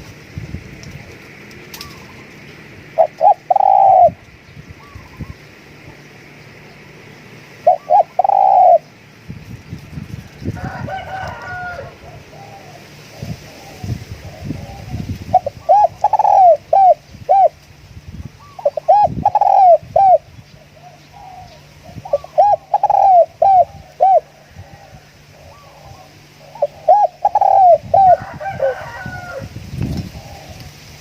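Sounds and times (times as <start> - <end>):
dove cooing: 1.3 - 6.1, 7.4 - 9.1, 10.6 - 17.6, 18.4 - 30.8.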